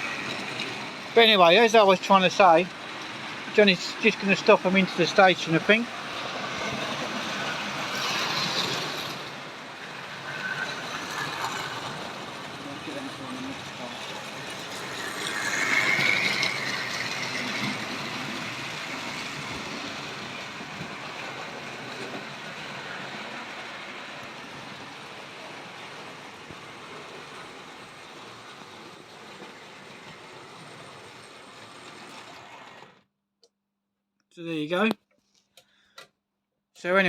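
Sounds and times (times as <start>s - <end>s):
model train wheels clattering: 0.0s - 9.4s, 10.2s - 33.0s.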